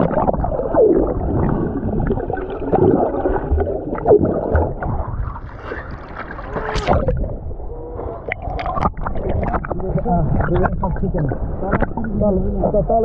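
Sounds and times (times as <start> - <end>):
underwater bubbling and gurgling: 0.0 - 13.0.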